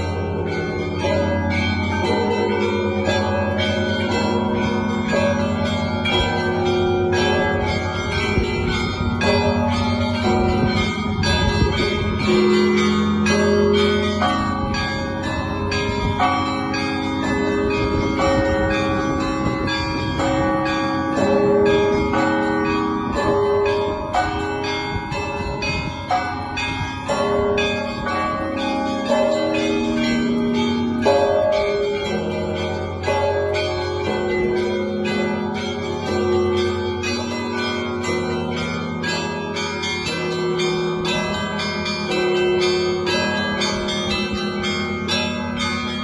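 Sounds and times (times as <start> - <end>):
deep tones of large bells: 0.0 - 46.0.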